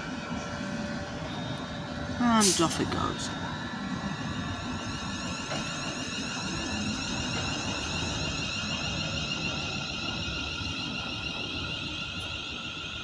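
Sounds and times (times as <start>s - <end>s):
electric train pulling away: 0.0s - 13.0s.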